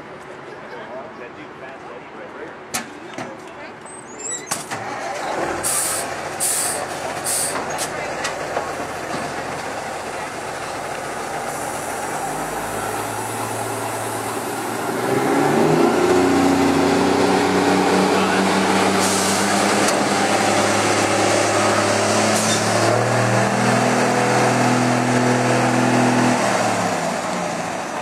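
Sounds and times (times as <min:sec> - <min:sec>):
diesel truck engine under load: 0:04.0 - 0:28.0.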